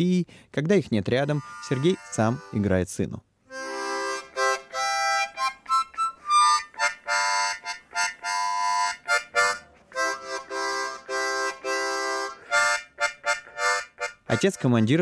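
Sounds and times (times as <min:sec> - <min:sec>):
harmonica playing slow tune: 0:01.2 - 0:02.8, 0:03.5 - 0:15.0.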